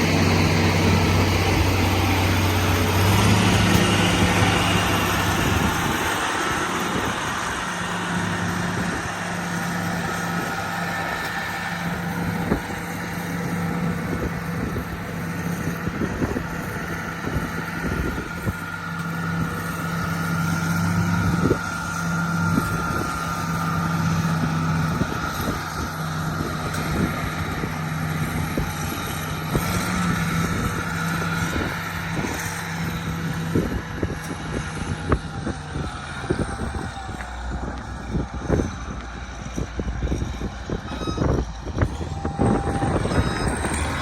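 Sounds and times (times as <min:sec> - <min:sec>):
high-pitched whine: 0:00.0 - 0:44.0
road roller diesel engine running: 0:00.0 - 0:44.0.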